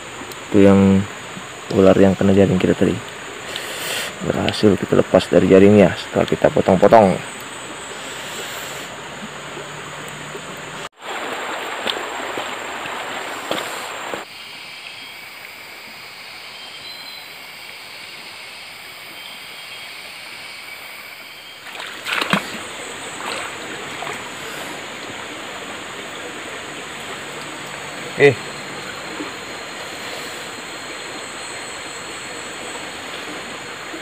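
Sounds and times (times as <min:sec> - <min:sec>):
water splashes: 0:00.0 - 0:15.6, 0:21.1 - 0:34.0
stream running: 0:00.0 - 0:34.0.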